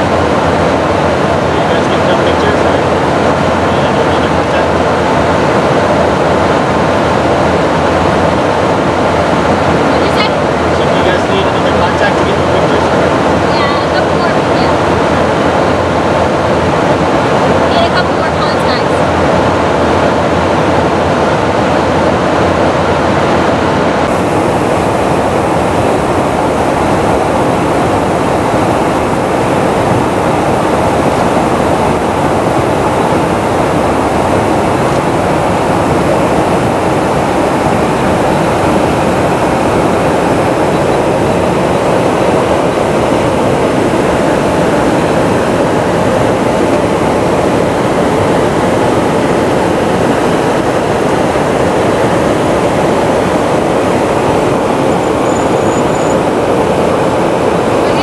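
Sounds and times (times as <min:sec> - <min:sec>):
airflow and jet engine roar: 0:00.0 - 0:58.0.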